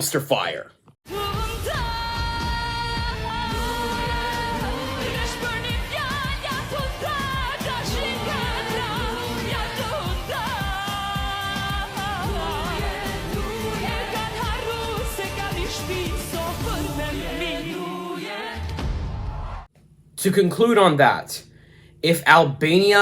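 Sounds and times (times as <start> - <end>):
pop song with singing: 1.0 - 19.6.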